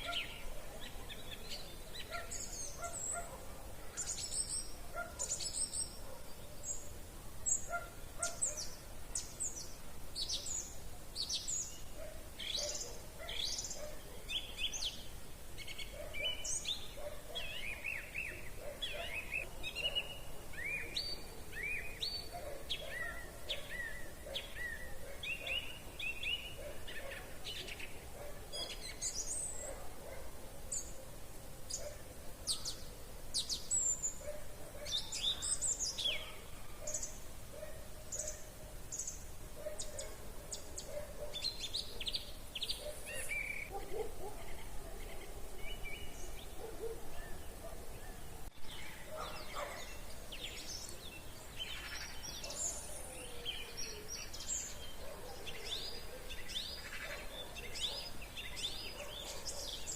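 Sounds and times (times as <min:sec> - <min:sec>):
songbirds chirping and whistling: 0:00.0 - 0:59.9.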